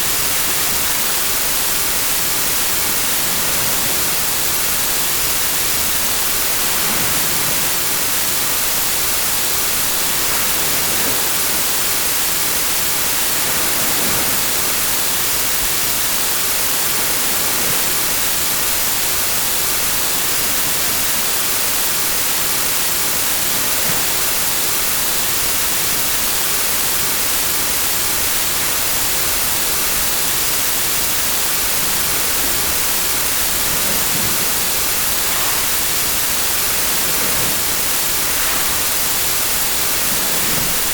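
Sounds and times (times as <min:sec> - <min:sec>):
steady static hiss: 0:00.0 - 0:40.9.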